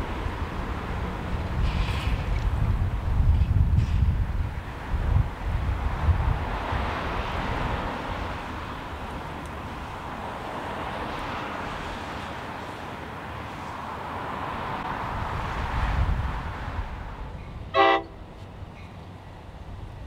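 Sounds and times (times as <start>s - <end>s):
rush of vehicle noise: 0.0s - 20.0s.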